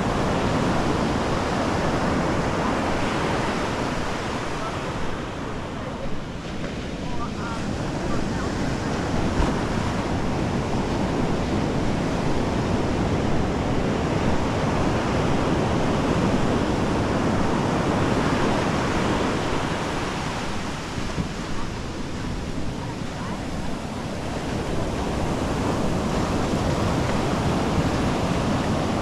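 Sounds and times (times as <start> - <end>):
ocean surf breaking on beach: 0.0 - 29.0.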